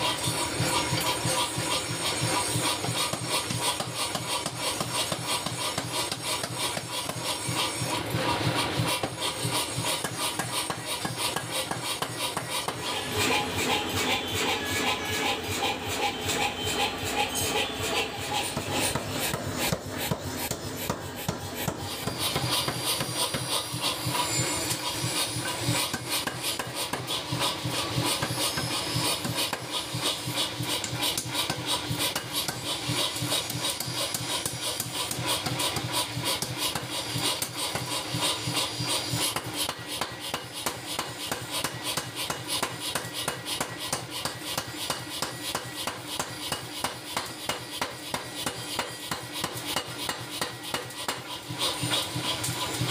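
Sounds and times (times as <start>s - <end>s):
power hammer pounding metal: 0.0s - 52.9s.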